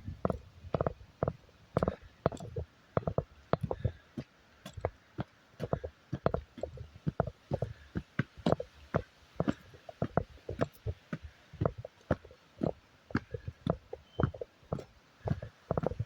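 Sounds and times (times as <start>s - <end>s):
footsteps crunching on trail: 0.0s - 16.0s.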